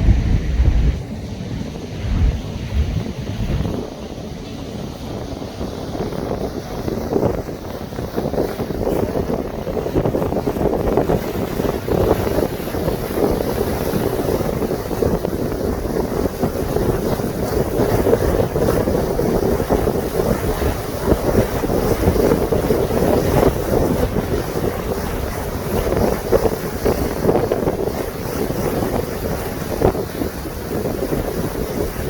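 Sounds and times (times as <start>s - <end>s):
boat rushing through water: 0.0s - 32.0s
wind buffeting the microphone: 0.0s - 32.0s.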